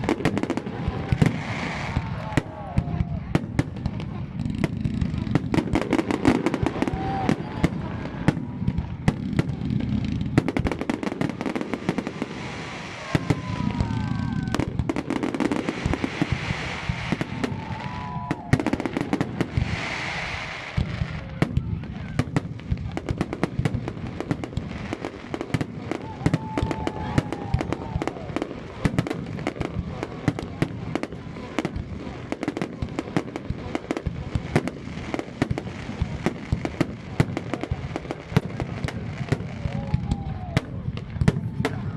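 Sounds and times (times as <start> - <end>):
hissing crackle: 0.0 - 40.0
fireworks bursting and crackling: 0.0 - 41.9.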